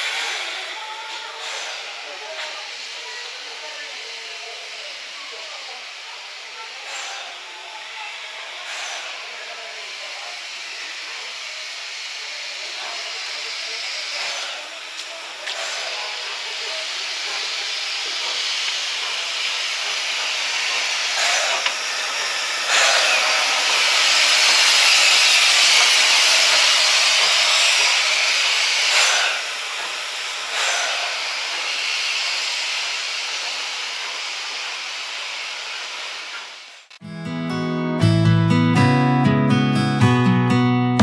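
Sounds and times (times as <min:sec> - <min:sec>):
steam locomotive venting steam: 0:00.0 - 0:37.0.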